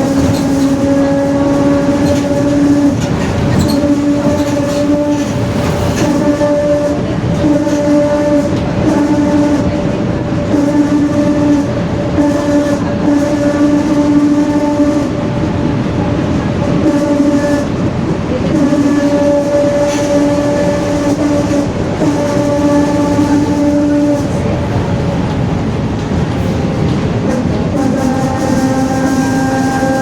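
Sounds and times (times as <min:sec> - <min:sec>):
bus differential gear whine: 0:00.0 - 0:27.5.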